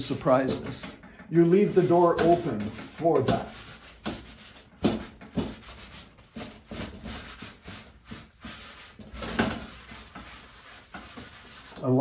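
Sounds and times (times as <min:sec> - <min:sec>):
pad rubbing on paper: 0:01.5 - 0:12.0.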